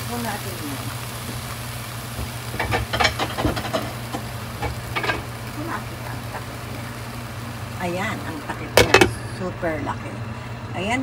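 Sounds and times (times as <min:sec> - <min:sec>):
broth simmering in a pan: 0:00.0 - 0:11.0.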